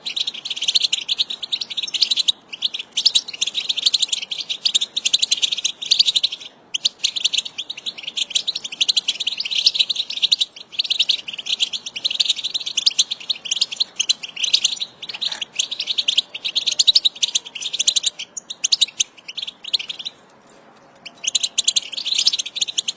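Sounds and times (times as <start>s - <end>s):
flock of birds twittering: 0.0s - 22.9s.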